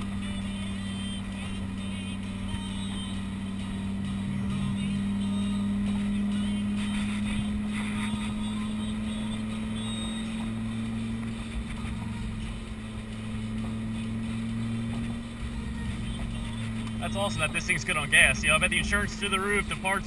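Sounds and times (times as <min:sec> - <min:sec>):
car engine running at low revs: 0:00.0 - 0:20.0.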